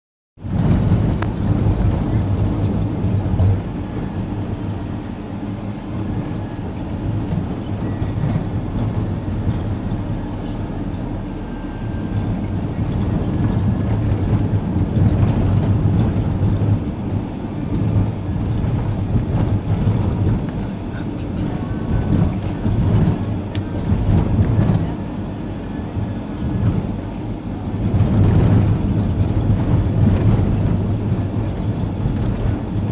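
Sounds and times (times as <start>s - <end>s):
vehicle engine and tyre rumble: 0.4s - 32.9s
wind on microphone: 0.4s - 32.9s.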